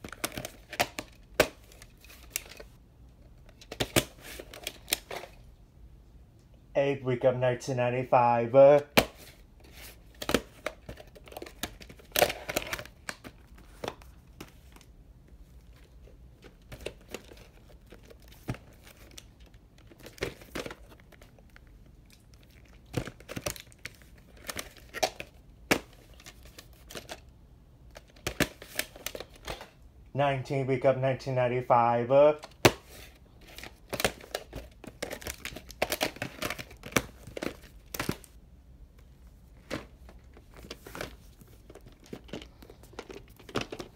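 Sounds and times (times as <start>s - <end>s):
plastic cassette case handling: 0.0s - 2.7s, 3.3s - 5.4s, 8.9s - 27.3s, 27.9s - 29.8s, 32.4s - 38.3s, 39.6s - 43.9s.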